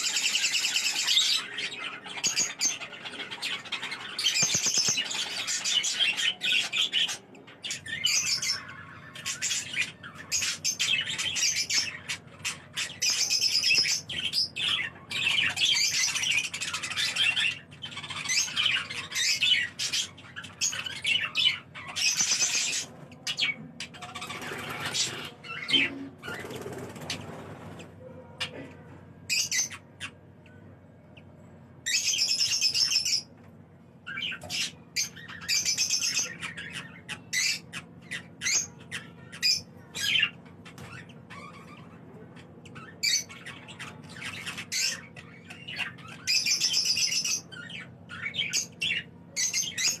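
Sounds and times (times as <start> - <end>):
budgerigars chirping: 0.0 - 28.6, 34.1 - 50.0
budgerigars squawking: 0.0 - 28.6, 34.1 - 50.0.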